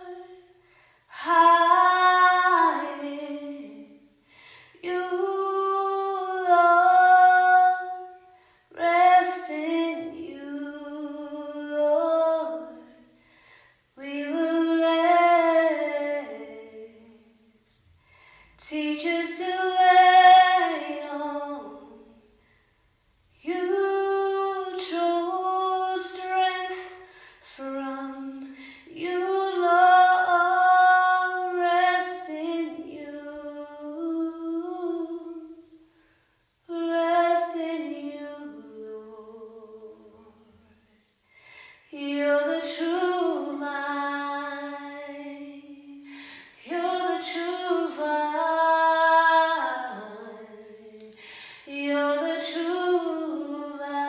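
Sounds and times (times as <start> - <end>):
woman singing unaccompanied: 0.0 - 0.5, 1.1 - 4.0, 4.8 - 13.0, 14.0 - 17.4, 18.6 - 22.2, 23.4 - 35.7, 36.7 - 40.7, 41.9 - 54.0.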